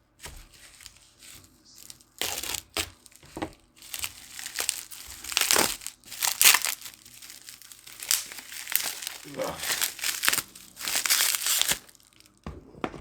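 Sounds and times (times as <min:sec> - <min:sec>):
packaging crinkling and rustling: 0:00.2 - 0:12.4.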